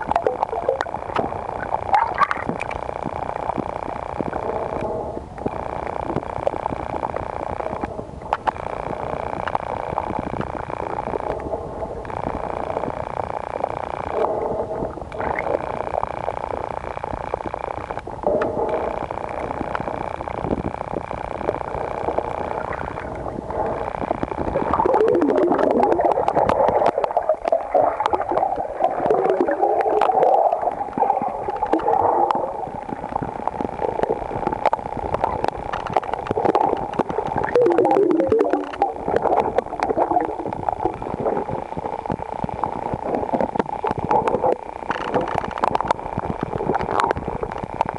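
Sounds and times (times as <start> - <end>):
underwater watery rush: 0.0 - 47.9.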